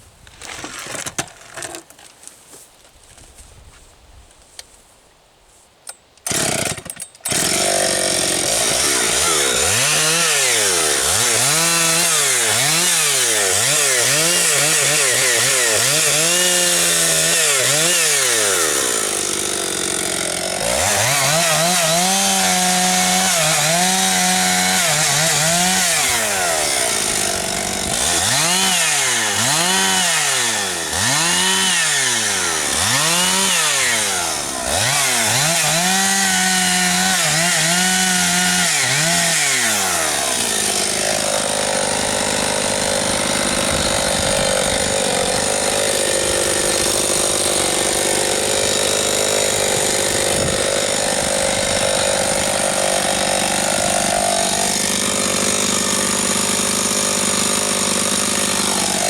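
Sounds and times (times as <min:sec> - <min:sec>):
chainsaw revving: 0:06.3 - 0:59.0.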